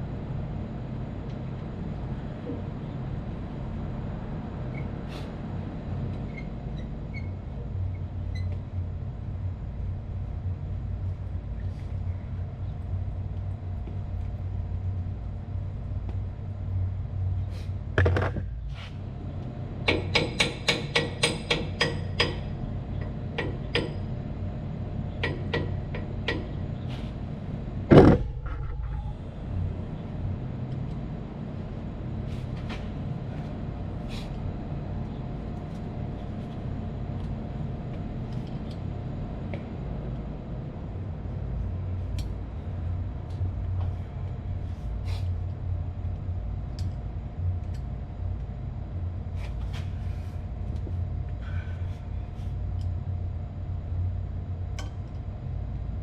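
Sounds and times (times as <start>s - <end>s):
low machinery hum: 0.0s - 56.0s.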